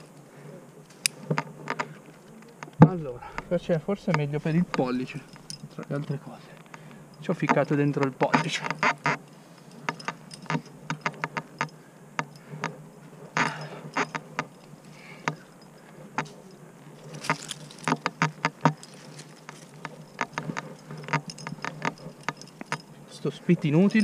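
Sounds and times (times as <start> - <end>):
scraping rustle: 0.0 - 11.7, 12.4 - 24.0
carabiners clinking: 0.8 - 24.0.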